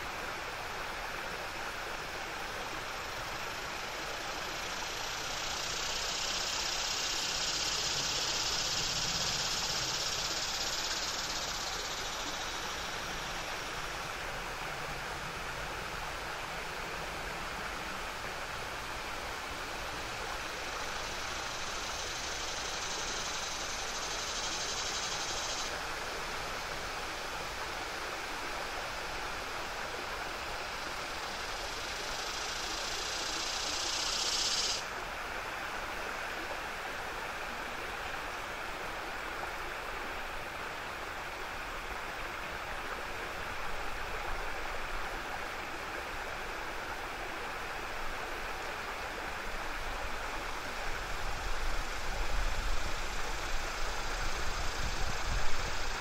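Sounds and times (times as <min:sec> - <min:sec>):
cicadas singing: 0:00.0 - 0:56.0
small waterfall rushing: 0:00.0 - 0:56.0.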